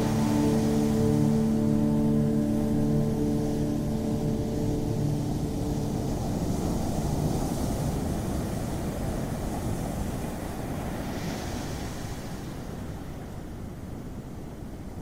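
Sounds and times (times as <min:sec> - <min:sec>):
ocean waves breaking: 0:00.0 - 0:13.2.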